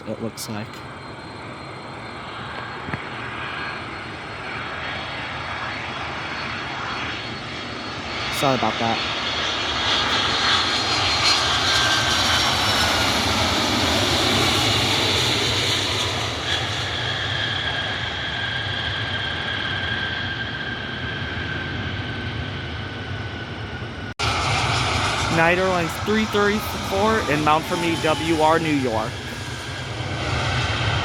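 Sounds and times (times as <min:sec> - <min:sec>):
jet engines roaring with high whine: 0:00.0 - 0:31.0.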